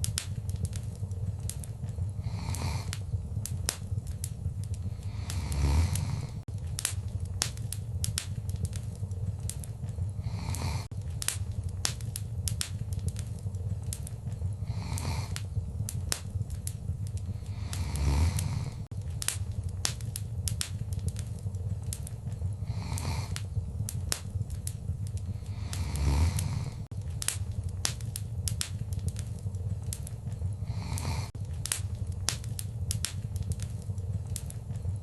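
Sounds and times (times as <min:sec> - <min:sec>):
fire low rumble: 0:00.0 - 0:35.0
wood fire crackling: 0:00.0 - 0:35.0.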